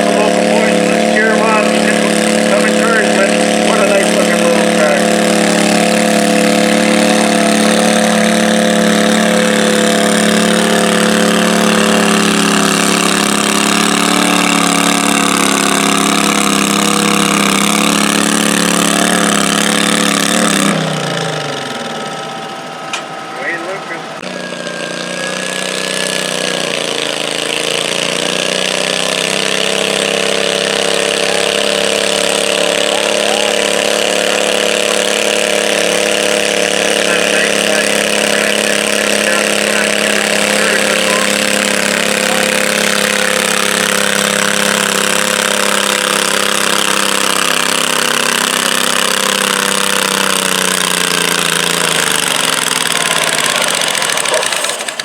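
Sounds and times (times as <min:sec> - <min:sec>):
garden tractor engine revving: 0:00.0 - 0:55.0.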